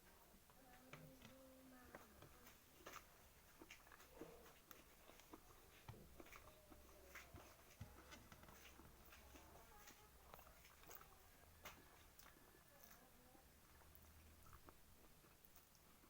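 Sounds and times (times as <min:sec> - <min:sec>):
faint chewing: 0:00.0 - 0:16.0.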